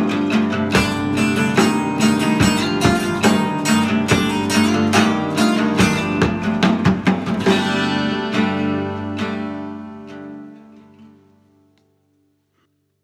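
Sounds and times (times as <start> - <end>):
acoustic guitar strumming: 0.0 - 12.2.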